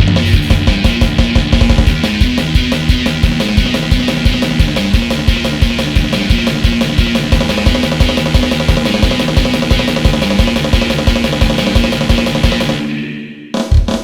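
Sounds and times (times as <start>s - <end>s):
rapid bass drum pulse: 0.0s - 13.0s, 13.6s - 14.0s
distorted guitar: 0.0s - 14.0s
heavy rock instrumental: 0.0s - 14.0s.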